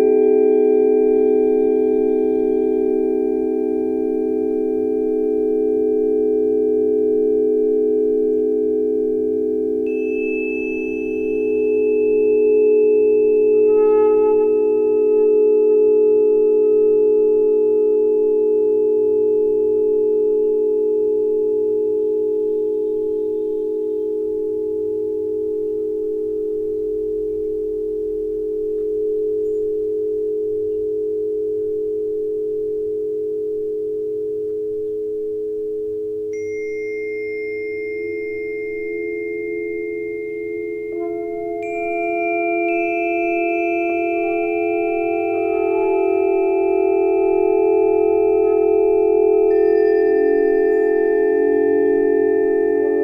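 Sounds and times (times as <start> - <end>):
higher ringing tones: 0.0 - 26.8, 36.3 - 53.0
low sustained pure tones: 0.0 - 33.8, 34.7 - 53.0.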